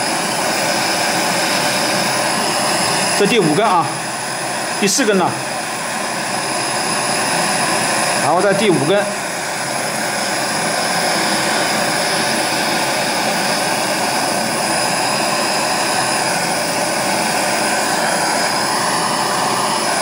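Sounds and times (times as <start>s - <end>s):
gas torch hissing: 0.0s - 20.0s.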